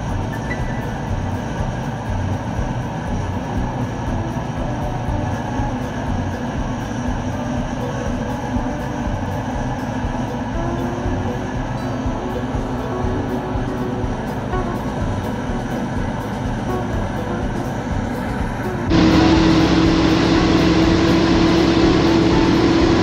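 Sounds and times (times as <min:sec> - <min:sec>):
engine and road noise in cab: 0:00.0 - 0:23.0.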